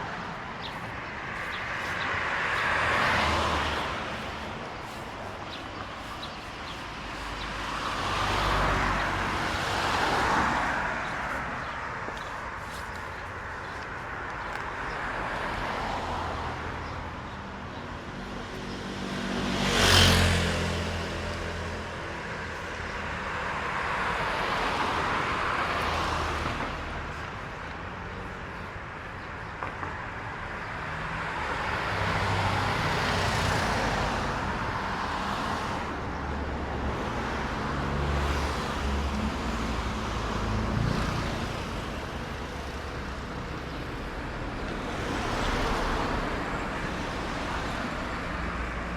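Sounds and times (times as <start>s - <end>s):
cars passing on wet road: 0.0s - 48.9s.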